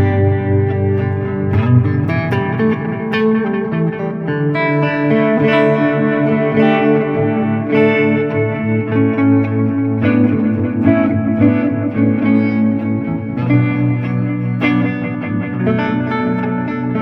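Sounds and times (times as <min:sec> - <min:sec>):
electric guitar chords and notes: 0:00.0 - 0:17.0.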